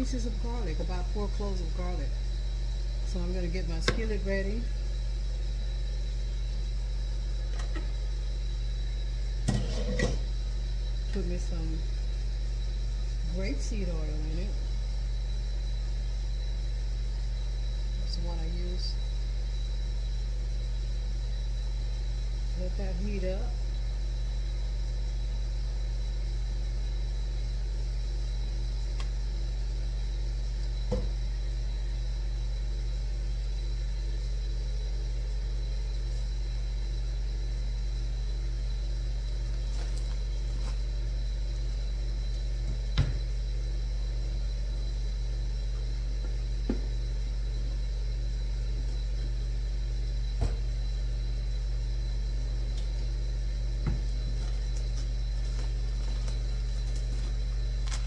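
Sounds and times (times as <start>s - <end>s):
appliance fan and motor hum: 0.0s - 58.0s.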